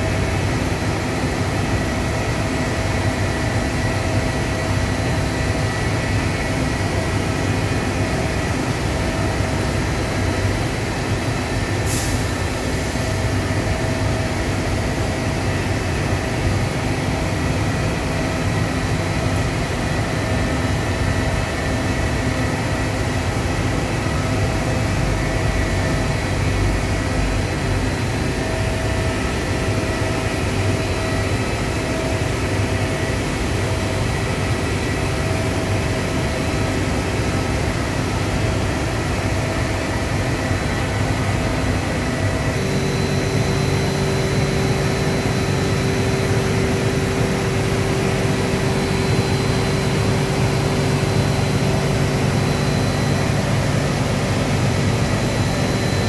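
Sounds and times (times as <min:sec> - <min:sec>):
industrial fans roaring: 0:00.0 - 0:56.0
machine hums: 0:00.0 - 0:56.0
steady machine tone: 0:00.0 - 0:56.0.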